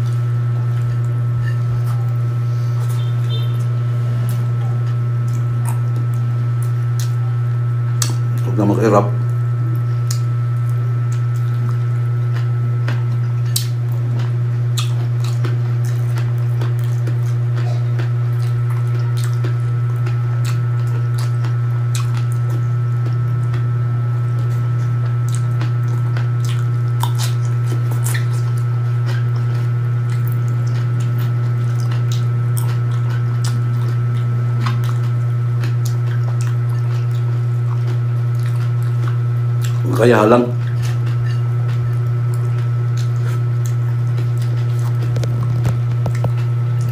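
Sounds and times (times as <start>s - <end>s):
person chewing: 0.0s - 8.6s, 9.2s - 46.9s
loud low hum: 0.0s - 46.9s.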